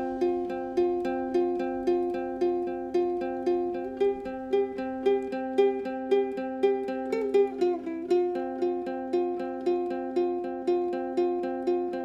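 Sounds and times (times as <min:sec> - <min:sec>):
ukulele strumming: 0:00.0 - 0:12.0.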